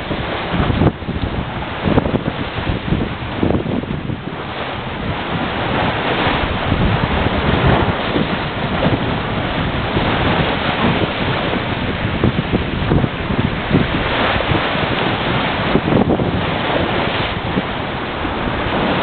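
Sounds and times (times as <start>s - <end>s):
sea water and waves rushing: 0.0s - 19.0s
wind buffeting microphone: 0.0s - 19.0s.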